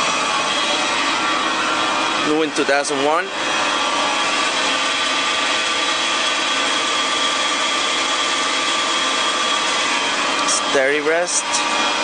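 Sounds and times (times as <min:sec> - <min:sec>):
machinery whirring hum: 0:00.0 - 0:12.0.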